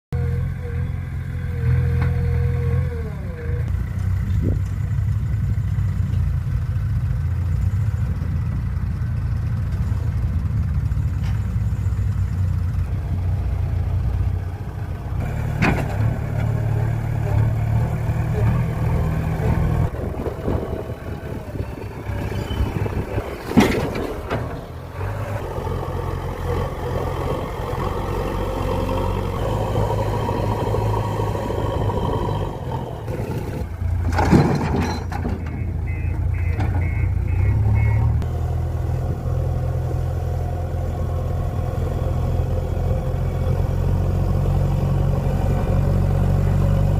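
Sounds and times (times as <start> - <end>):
diesel engine running: 0.1 - 46.9.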